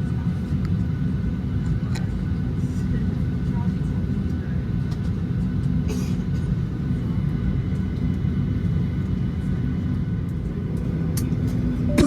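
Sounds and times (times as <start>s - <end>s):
aircraft cabin rumble and hiss: 0.0s - 12.0s.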